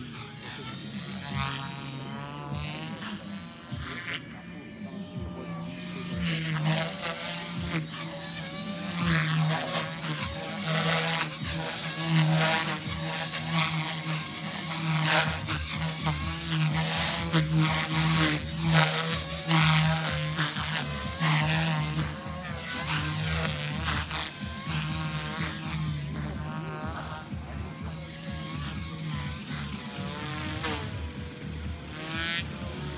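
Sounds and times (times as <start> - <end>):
rc helicopter rotor whine: 0.0 - 32.9.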